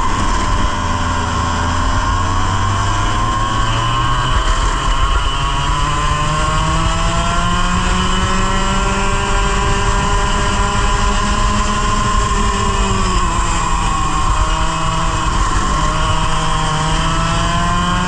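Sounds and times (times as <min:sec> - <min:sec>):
kart engine at full throttle: 0:00.0 - 0:18.0.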